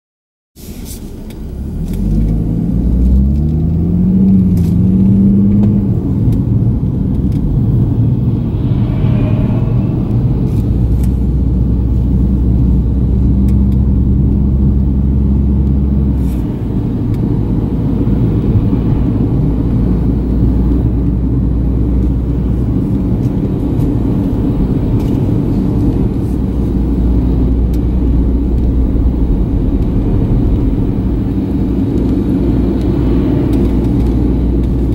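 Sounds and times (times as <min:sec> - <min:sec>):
car engine heard from cabin: 0:00.6 - 0:08.7, 0:10.1 - 0:34.9
road and tyre noise: 0:00.6 - 0:34.9.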